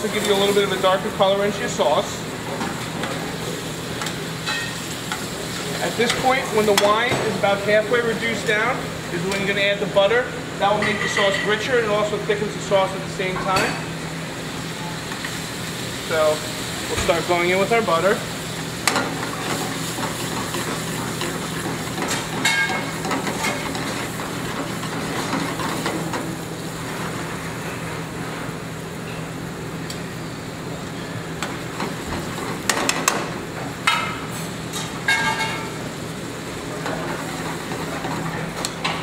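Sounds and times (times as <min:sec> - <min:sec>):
low kitchen hum: 0:00.0 - 0:39.0.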